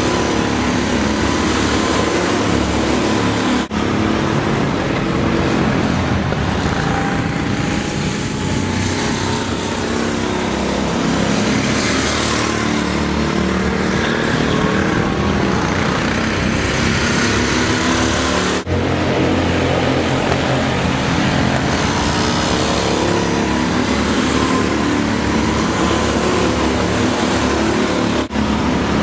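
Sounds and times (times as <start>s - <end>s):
go-kart engines racing: 0.0s - 29.0s.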